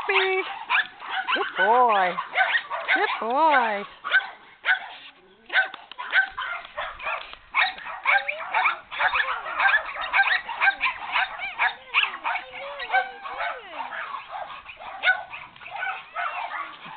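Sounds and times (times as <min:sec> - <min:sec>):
puppy yapping: 0:00.1 - 0:16.9.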